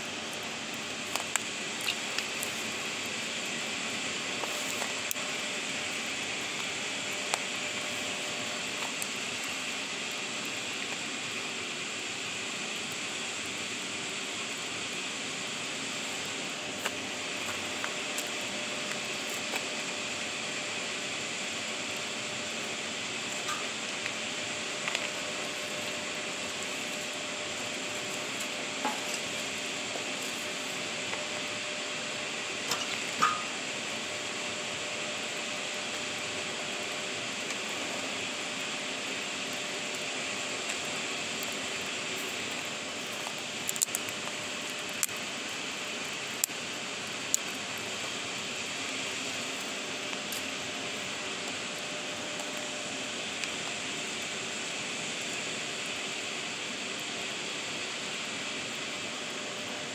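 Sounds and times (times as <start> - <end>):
fire rushing hiss: 0.0 - 59.9
wood fire crackling and popping: 0.0 - 59.9.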